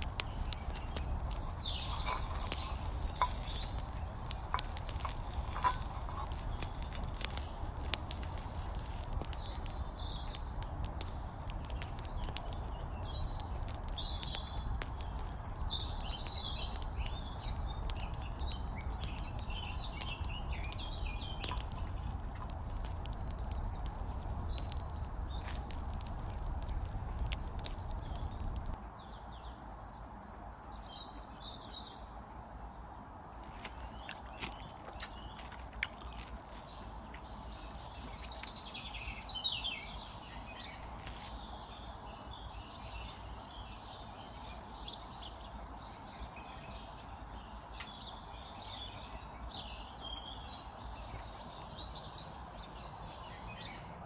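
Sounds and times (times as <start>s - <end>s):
wood fire crackling: 0.0s - 28.8s, 32.9s - 53.7s
birds chirping: 0.0s - 54.0s.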